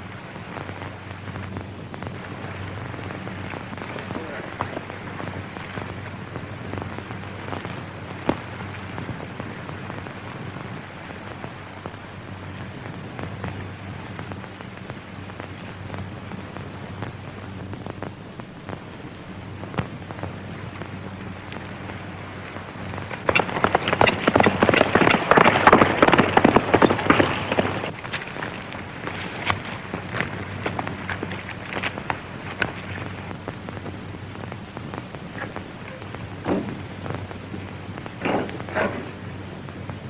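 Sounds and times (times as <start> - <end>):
dense crackling and rustling noise: 0.0 - 40.0
film soundtrack hiss and crackle: 0.0 - 40.0.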